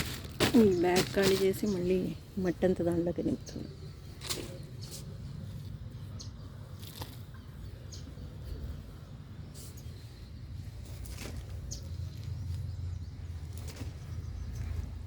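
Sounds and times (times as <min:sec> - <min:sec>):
hands rustling soil: 0:00.0 - 0:15.0.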